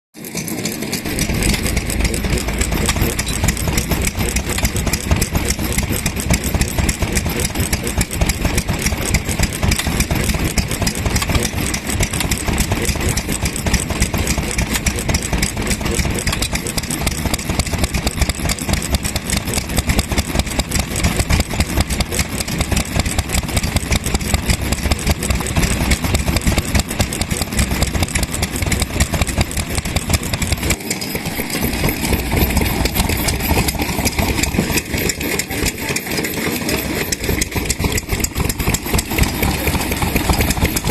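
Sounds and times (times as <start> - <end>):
stationary engine exhaust beat: 0.5 - 40.9.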